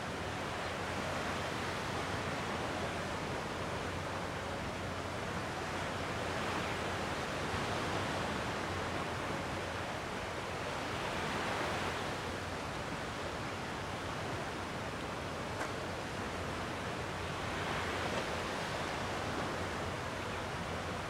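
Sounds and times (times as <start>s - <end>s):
sea waves washing ashore: 0.0s - 21.0s.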